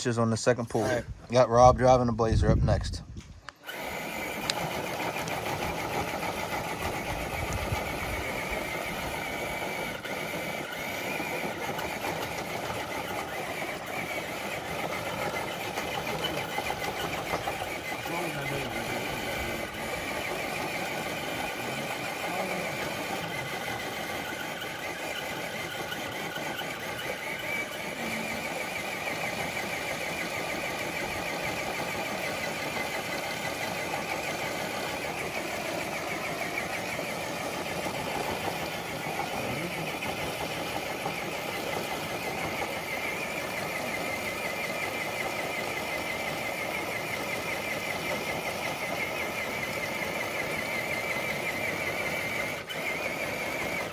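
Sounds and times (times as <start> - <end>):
electric motor whine: 0.7 - 53.9.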